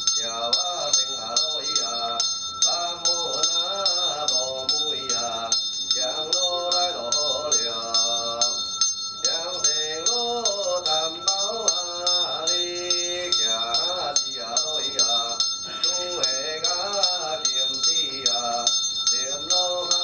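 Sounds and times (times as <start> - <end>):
small metal bell ringing: 0.0 - 20.0
wavering chanted melody: 0.0 - 20.0.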